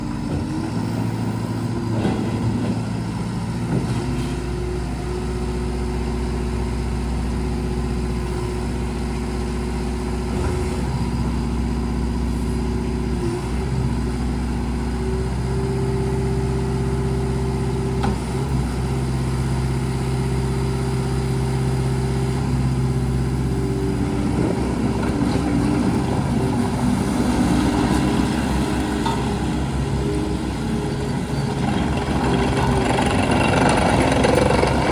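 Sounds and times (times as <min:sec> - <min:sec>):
loader diesel engine running: 0:00.0 - 0:34.9.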